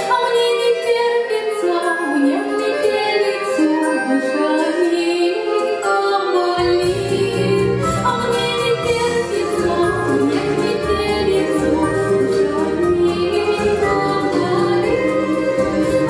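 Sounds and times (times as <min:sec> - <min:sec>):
instrumental accompaniment: 0:00.0 - 0:16.0
woman singing: 0:00.0 - 0:16.0.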